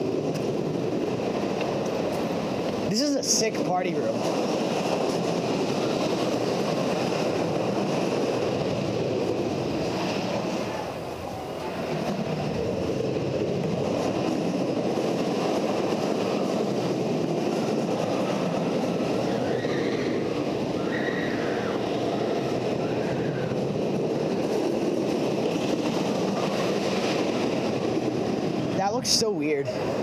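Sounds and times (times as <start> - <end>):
roller coaster rumbling on track: 0.0 - 30.0.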